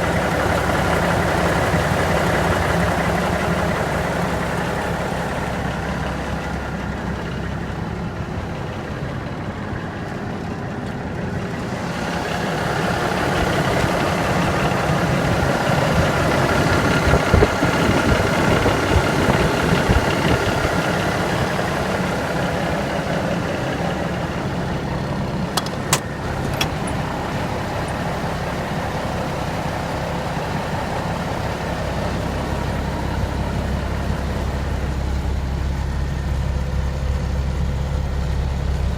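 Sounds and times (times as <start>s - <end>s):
diesel truck idling: 0.0s - 38.9s.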